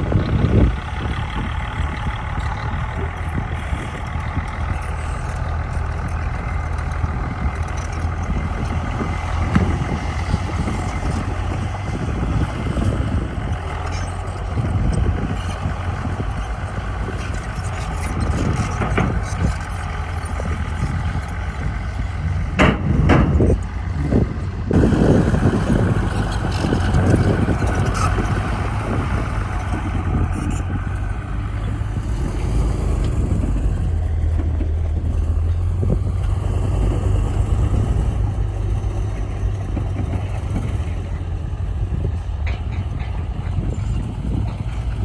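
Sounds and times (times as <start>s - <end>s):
diesel machinery engine rumble: 0.0s - 45.0s.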